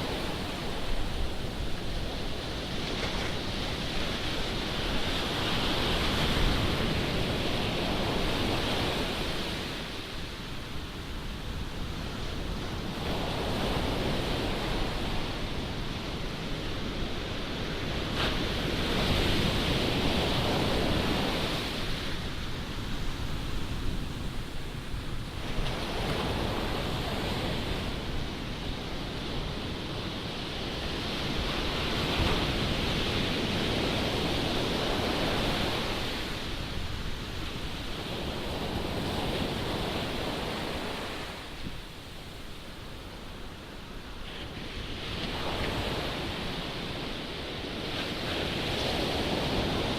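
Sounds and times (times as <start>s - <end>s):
ocean surf breaking: 0.0s - 10.4s, 12.6s - 49.9s.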